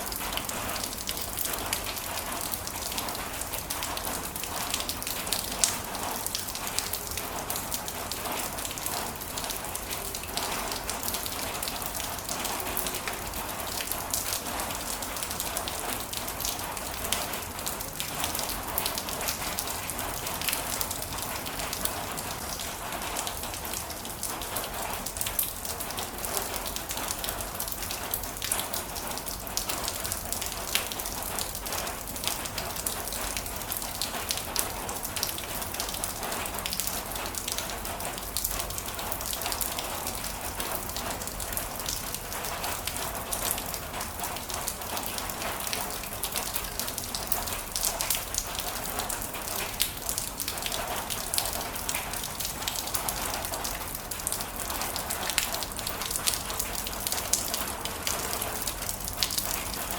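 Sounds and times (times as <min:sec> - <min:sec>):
heavy rain pattering: 0:00.0 - 0:59.9.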